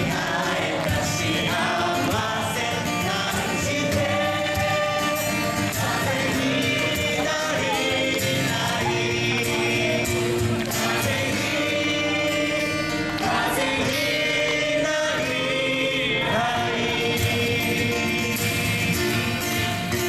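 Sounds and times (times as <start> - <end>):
voices singing together: 0.0 - 20.0.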